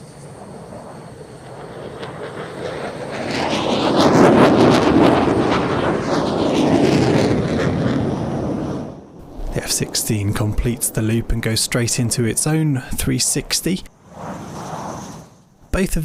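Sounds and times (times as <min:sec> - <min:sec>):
jet engine roaring past: 0:00.0 - 0:15.8.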